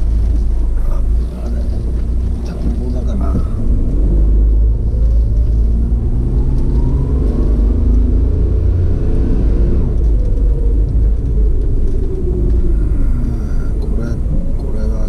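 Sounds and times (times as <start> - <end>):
heavy low rumble: 0.0 - 15.0
vehicle engine accelerating: 0.0 - 15.0.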